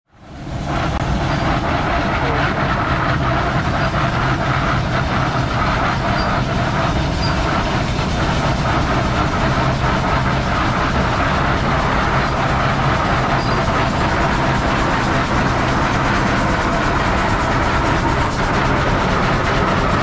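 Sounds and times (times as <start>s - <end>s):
tractor engine running: 0.2s - 20.0s.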